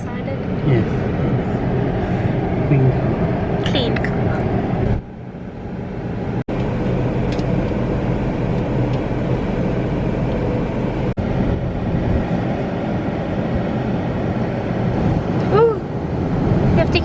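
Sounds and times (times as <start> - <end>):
automatic car wash noise: 0.0 - 17.0.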